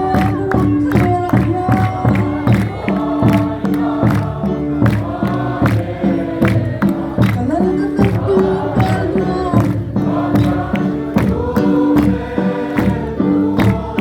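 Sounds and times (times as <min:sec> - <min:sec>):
steady drumbeat: 0:00.0 - 0:14.0
group singing a hymn: 0:00.1 - 0:14.0.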